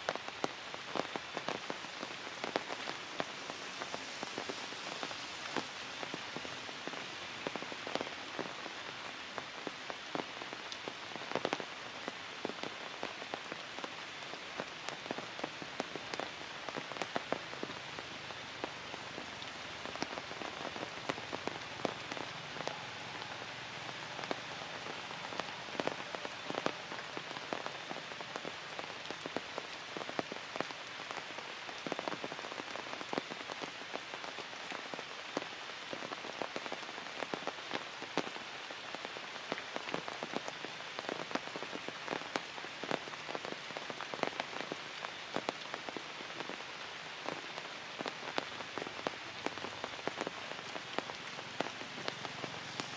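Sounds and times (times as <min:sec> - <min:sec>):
rain on foliage: 0:00.0 - 0:52.9.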